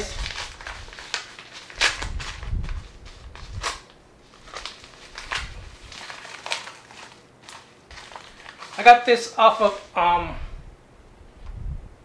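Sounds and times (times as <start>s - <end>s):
shipping bag rustling: 0.0s - 10.0s.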